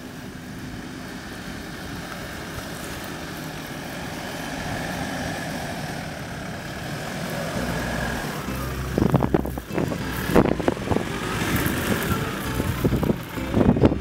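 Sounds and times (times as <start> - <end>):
suv engine climbing under load: 0.0 - 14.0.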